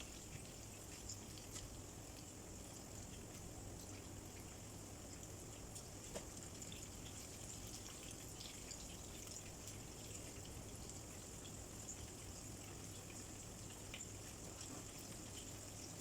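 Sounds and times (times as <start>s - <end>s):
shrimp sizzling in hot oil: 0.0s - 16.0s.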